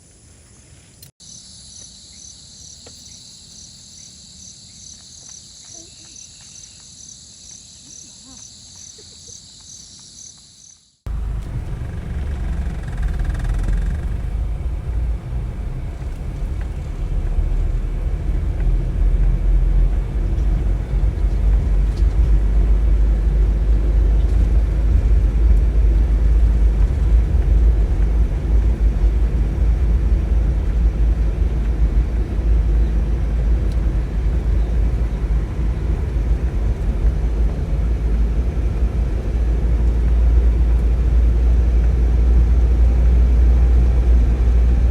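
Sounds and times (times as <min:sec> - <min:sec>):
vehicle road and engine rumble: 0:00.1 - 0:44.9.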